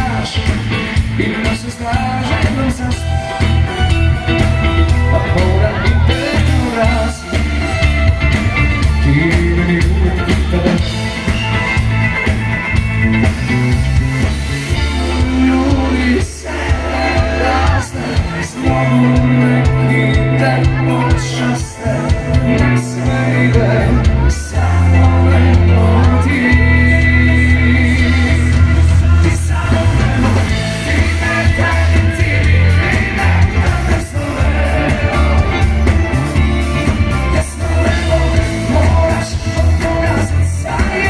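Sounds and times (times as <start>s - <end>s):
vocals: 0.0s - 12.7s, 13.8s - 41.0s
live band music: 0.0s - 41.0s.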